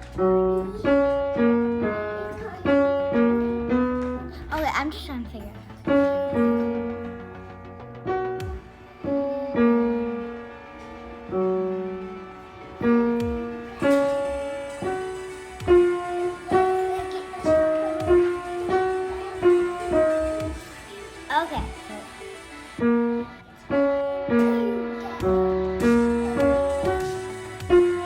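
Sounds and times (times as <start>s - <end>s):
piano played slowly: 0.0s - 4.6s, 5.6s - 28.0s.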